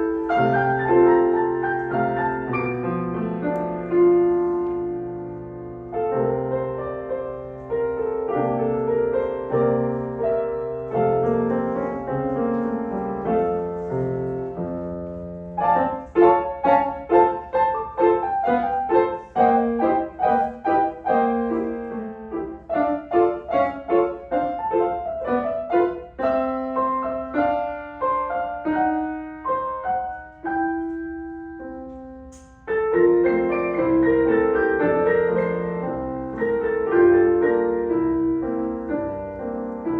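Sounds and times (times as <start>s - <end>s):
solo piano piece: 0.0s - 39.9s.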